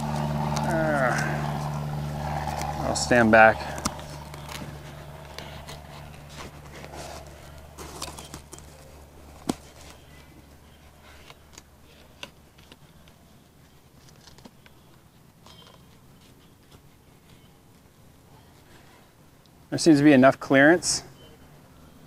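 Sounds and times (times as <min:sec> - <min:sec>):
polishing bonnet rustling and clicking: 0:00.0 - 0:17.9
low steady hum: 0:00.0 - 0:22.0.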